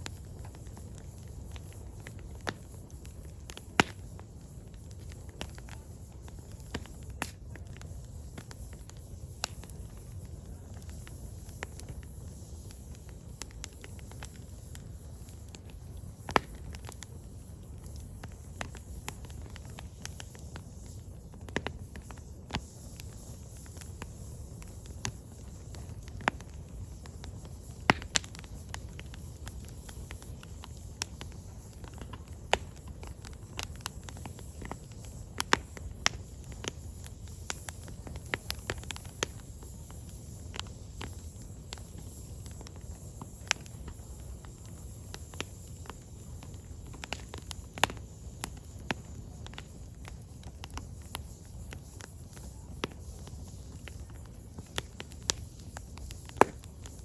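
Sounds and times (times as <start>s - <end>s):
logs crackling and popping: 0.0s - 57.0s
low rumble of fire: 0.0s - 57.0s.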